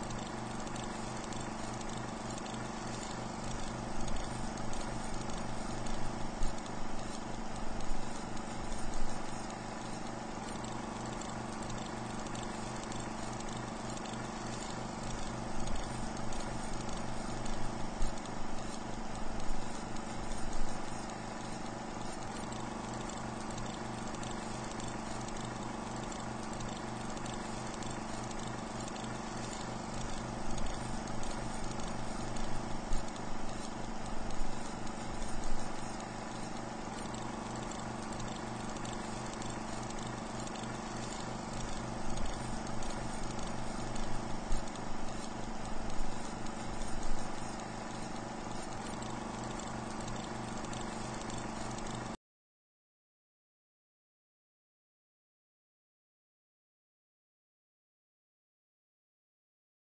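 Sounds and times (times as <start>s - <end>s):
film projector running: 0.0s - 52.2s.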